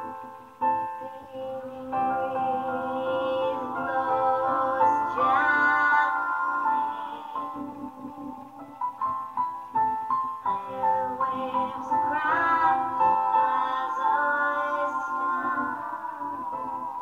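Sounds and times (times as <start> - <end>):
layered vocals singing: 0.0 - 17.0
piano accompaniment: 0.0 - 17.0.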